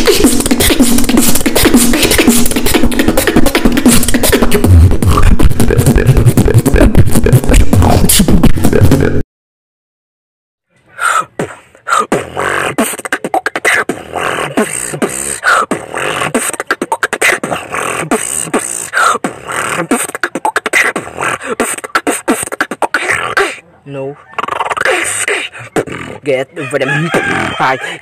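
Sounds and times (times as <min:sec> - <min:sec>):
bass-heavy beatboxing: 0:00.0 - 0:09.2, 0:11.0 - 0:23.6, 0:24.4 - 0:26.4
beatbox clicks and mouth percussion: 0:00.0 - 0:09.2, 0:11.0 - 0:23.6, 0:24.4 - 0:26.2.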